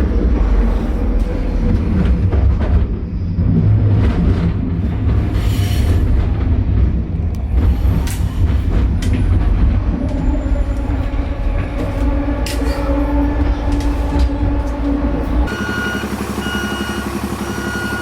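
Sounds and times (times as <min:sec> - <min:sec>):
train clicks and rattles: 0:00.0 - 0:15.5
train rumbling: 0:00.0 - 0:18.0.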